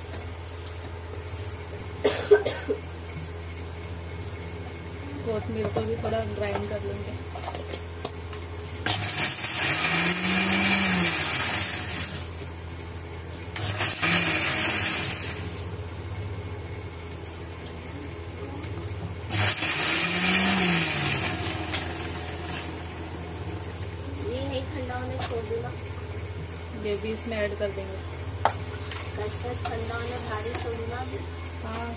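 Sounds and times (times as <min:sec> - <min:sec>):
mixer grinder grinding: 0:05.0 - 0:12.5, 0:13.4 - 0:31.7.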